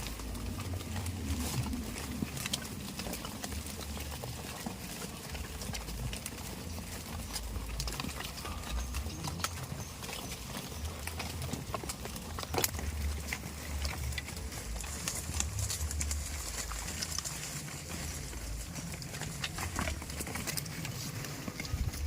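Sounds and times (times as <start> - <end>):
goat hooves clicking on hard ground: 0.0 - 22.0
low steady rumble: 0.0 - 22.0.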